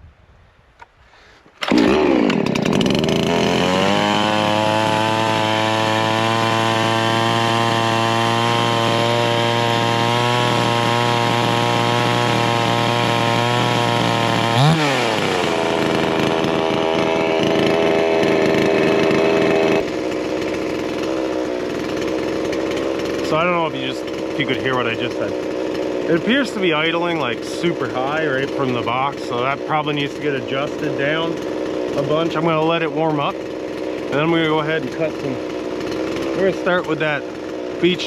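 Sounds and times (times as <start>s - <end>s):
chainsaw engine idling high: 1.1s - 38.0s
chainsaw engine revving: 1.2s - 38.0s.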